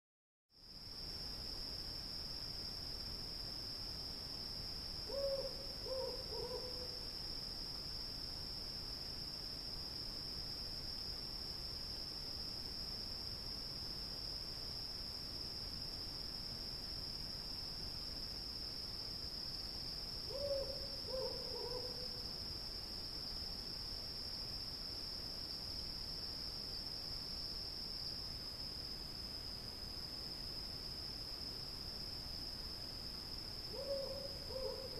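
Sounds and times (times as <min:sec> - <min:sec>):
crickets chirping: 0:00.6 - 0:34.9.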